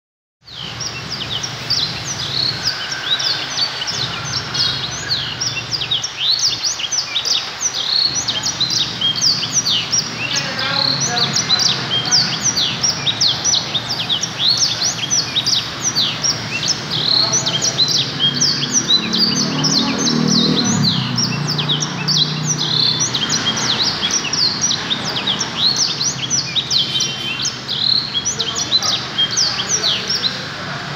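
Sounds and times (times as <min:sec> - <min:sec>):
small birds chirping: 0:00.4 - 0:30.9.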